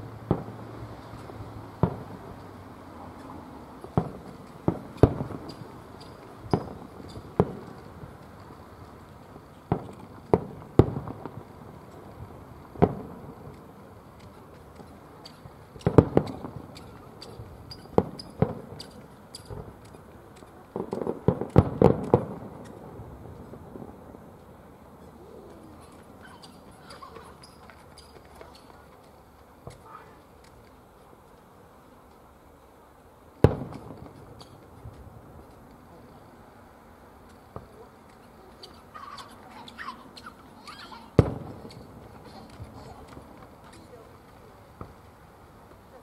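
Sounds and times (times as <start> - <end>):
fireworks bursting bangs: 0.0 - 30.2, 33.3 - 46.0.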